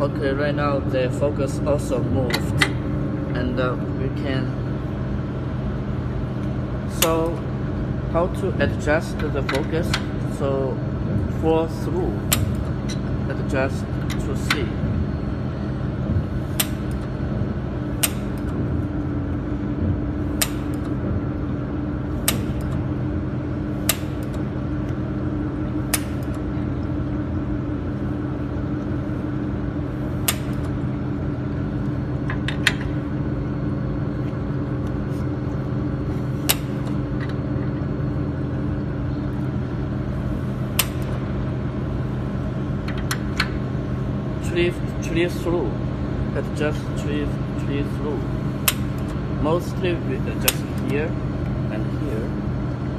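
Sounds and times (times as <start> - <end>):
machine cooling hum: 0.0 - 52.9.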